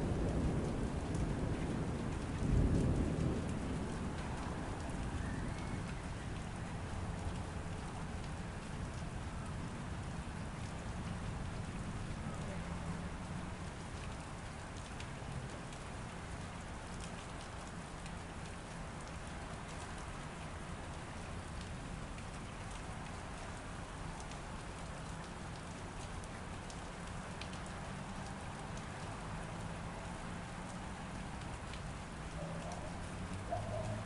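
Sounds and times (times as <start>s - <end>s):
sharp raindrop ticks: 0.0s - 34.0s
steady rain: 0.0s - 34.0s.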